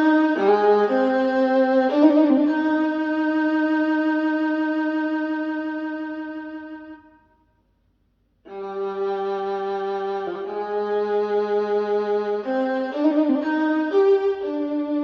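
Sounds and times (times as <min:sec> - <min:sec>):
violin music over loudspeaker: 0:00.0 - 0:06.8, 0:08.5 - 0:15.0.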